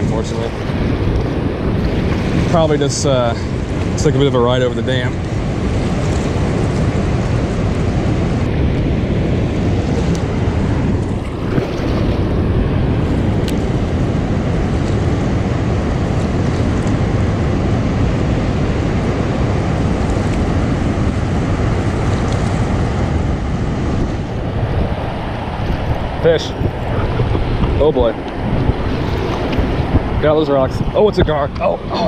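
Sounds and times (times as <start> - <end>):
water rushing through spillway: 0.0 - 32.0
wind buffeting microphone: 0.0 - 32.0.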